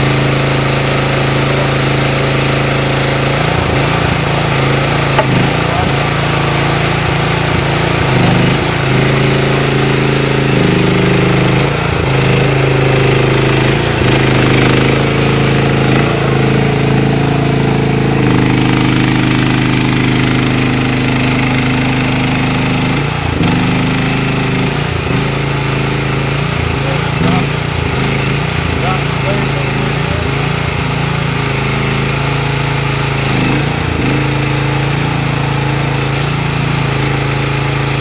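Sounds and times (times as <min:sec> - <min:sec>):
excavator engine under load: 0:00.0 - 0:38.0.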